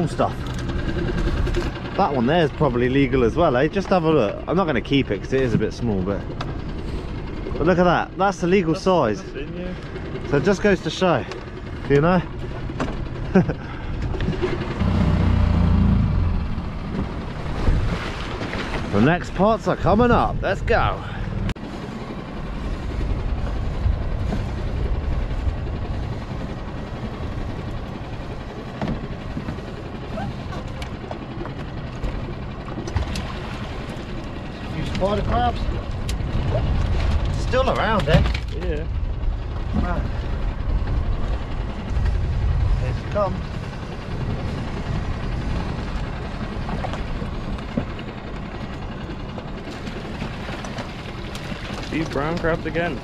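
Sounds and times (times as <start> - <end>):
boat low rumble: 0.0 - 53.0.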